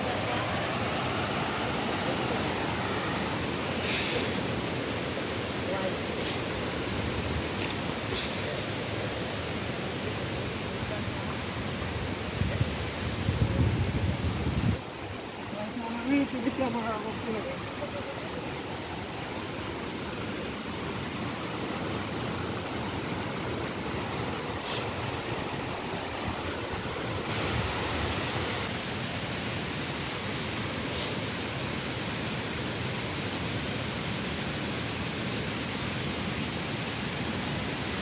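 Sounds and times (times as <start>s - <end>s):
river and waterfall rushing: 0.0s - 38.0s.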